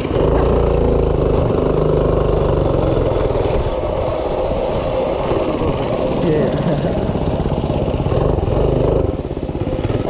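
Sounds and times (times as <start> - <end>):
minibike engine running: 0.0 - 10.0.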